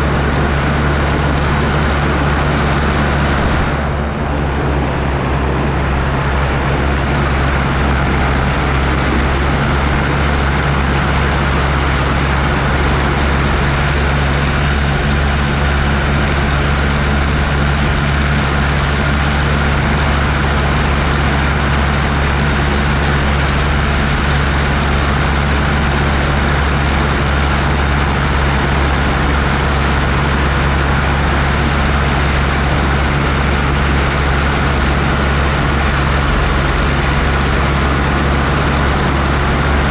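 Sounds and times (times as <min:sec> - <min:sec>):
aircraft engine low drone: 0:00.0 - 0:39.9.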